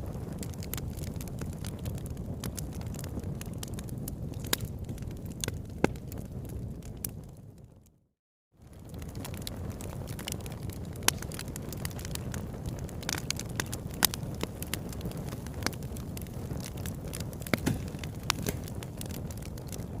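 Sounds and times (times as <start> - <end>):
wood crackling and popping: 0.0 - 7.9, 8.6 - 20.0
low rumble of flames: 0.0 - 20.0.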